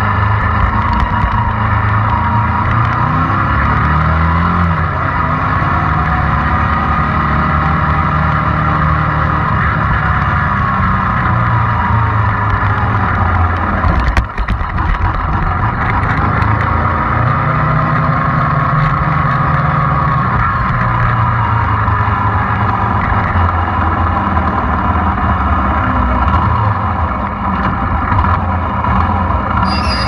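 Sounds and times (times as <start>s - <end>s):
small motorcycle engine running: 0.0s - 30.0s.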